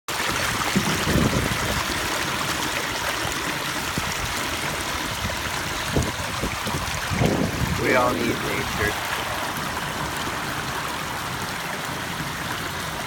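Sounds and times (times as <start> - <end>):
waterfall pouring into pond: 0.1 - 13.0.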